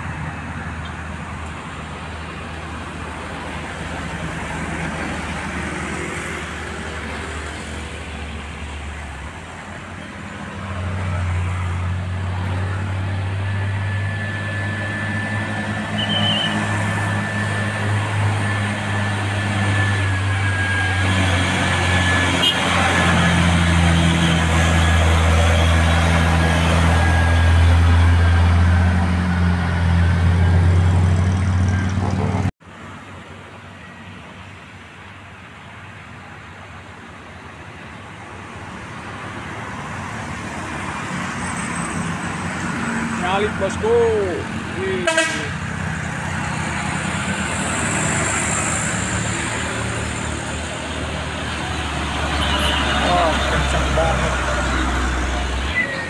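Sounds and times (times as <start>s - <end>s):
distant road traffic: 0.0s - 56.0s.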